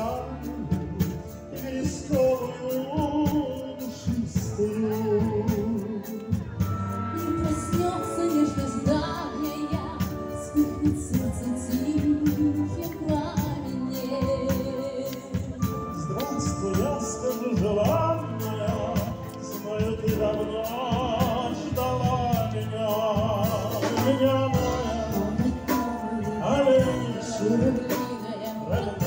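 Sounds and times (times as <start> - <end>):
person singing into microphone: 0.0 - 29.0
wind band playing: 0.0 - 29.0.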